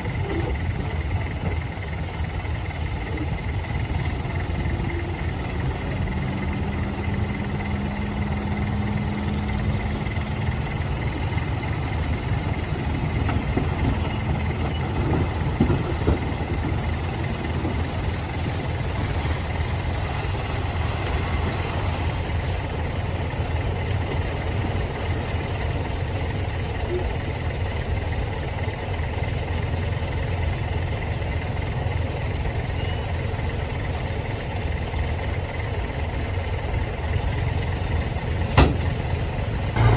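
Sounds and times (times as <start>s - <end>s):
heavy diesel engine idling: 0.0s - 39.9s.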